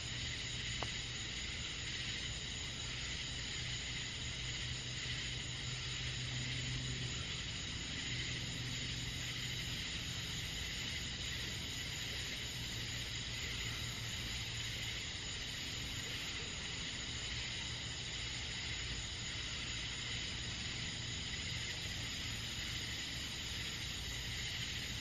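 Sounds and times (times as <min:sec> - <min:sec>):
crickets trilling: 0:00.0 - 0:25.0
low steady hum: 0:00.0 - 0:25.0.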